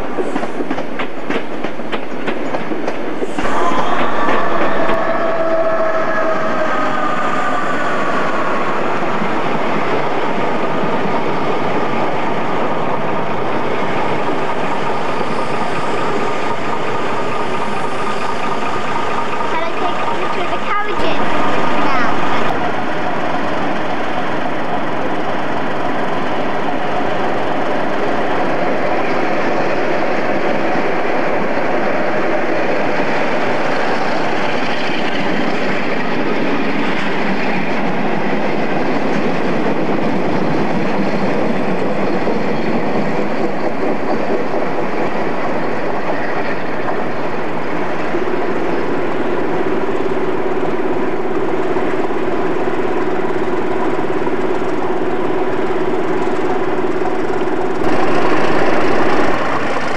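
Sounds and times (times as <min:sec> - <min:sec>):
freight train passing: 0:00.0 - 0:59.9.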